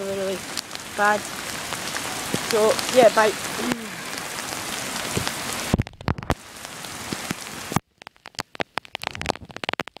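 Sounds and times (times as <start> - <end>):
hard rain hiss: 0.0 - 9.8
raindrop clicks: 0.0 - 10.0.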